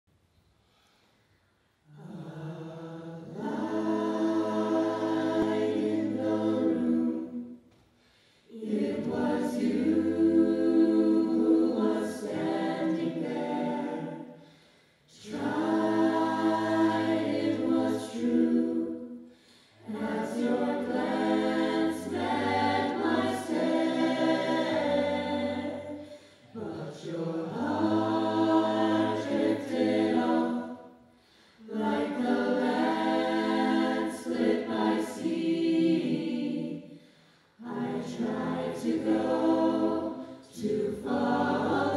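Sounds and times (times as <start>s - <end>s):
vocal ensemble singing harmony: 0.9s - 41.9s.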